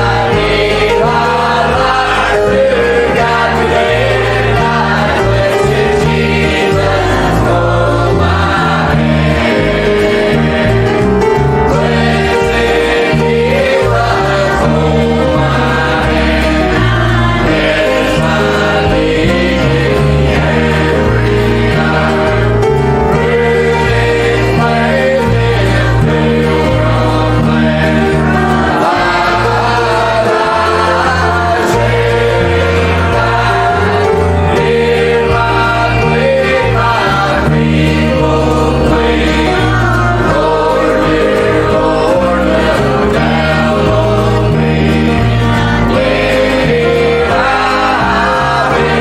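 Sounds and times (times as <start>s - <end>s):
choir singing a hymn: 0.0s - 49.0s
instrumental accompaniment: 0.0s - 49.0s.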